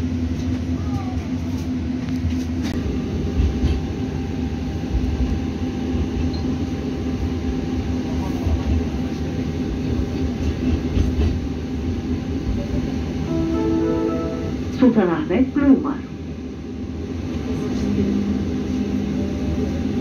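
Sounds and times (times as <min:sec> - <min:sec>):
tram rumbling along track: 0:00.0 - 0:20.0.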